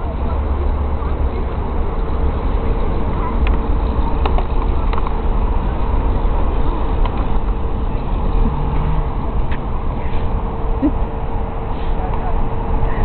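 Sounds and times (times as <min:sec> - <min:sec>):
faint constant hum: 0:00.0 - 0:13.0
steady low rumble: 0:00.0 - 0:13.0.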